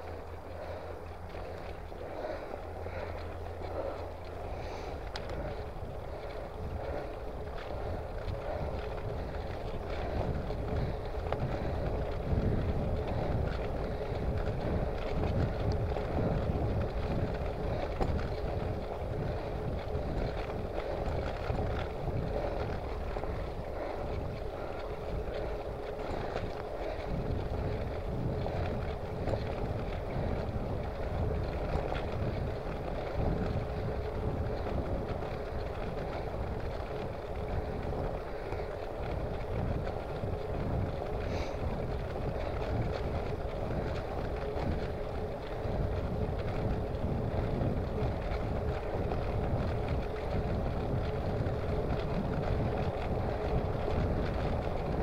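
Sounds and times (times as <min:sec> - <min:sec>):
steady hum: 0:00.0 - 0:55.0
wind buffeting microphone: 0:00.0 - 0:55.0.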